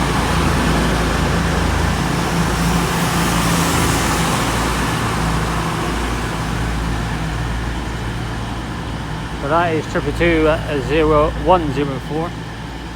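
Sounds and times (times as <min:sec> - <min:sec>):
diesel train engines rumbling: 0:00.0 - 0:12.9.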